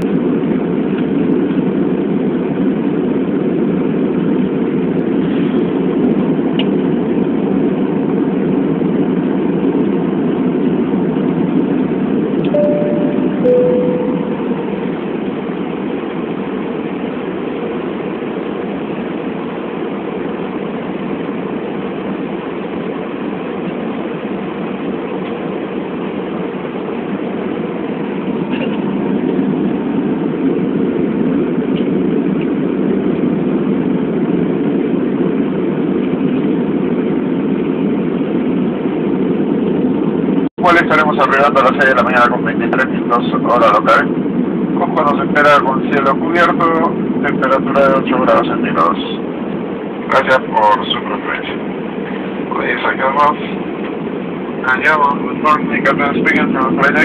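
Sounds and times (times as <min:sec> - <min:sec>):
airliner engine and airflow drone: 0:00.0 - 0:57.0.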